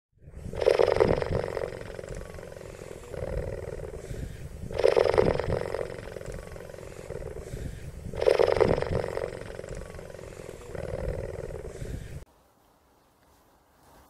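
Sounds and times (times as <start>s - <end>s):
animal growling quietly: 0.2s - 12.3s
animal roaring: 0.3s - 12.2s.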